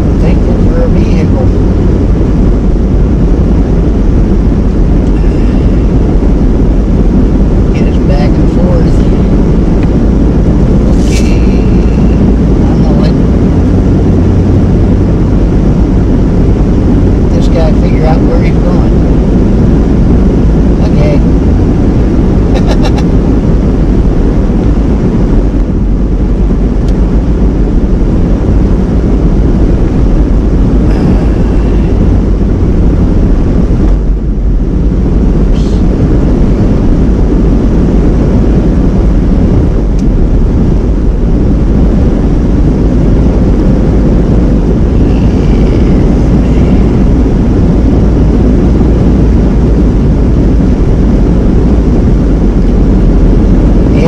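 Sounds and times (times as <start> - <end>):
road and engine rumble: 0.0 - 54.0.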